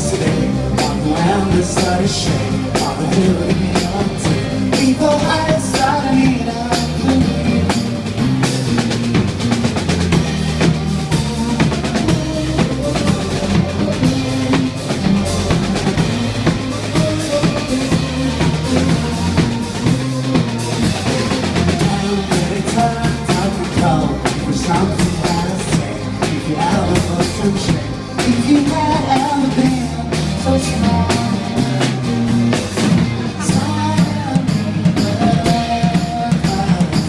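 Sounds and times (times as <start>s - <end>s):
bass line: 0.0s - 37.0s
rock band playing: 0.0s - 37.0s.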